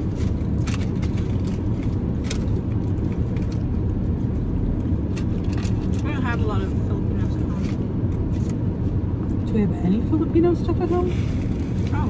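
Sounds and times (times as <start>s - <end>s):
car cabin low rumble: 0.0s - 12.0s.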